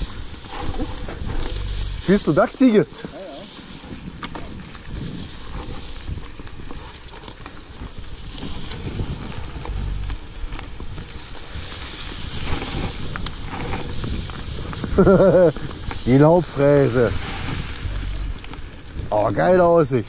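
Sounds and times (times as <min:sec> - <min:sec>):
bike rattling and knocking: 0:00.0 - 0:03.1, 0:03.8 - 0:19.8
bicycle tyres on gravel: 0:00.0 - 0:20.0
wind rumbling on microphone: 0:00.0 - 0:20.0.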